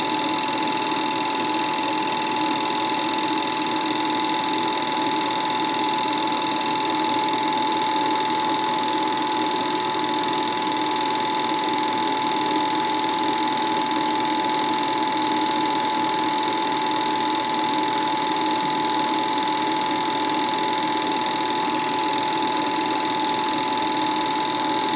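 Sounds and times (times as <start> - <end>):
film projector whirring: 0.0 - 24.9.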